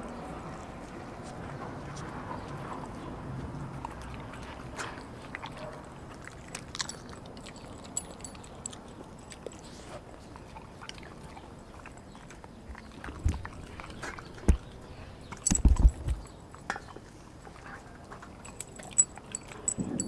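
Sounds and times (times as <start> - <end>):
dog chewing meat and bone: 0.0 - 20.0.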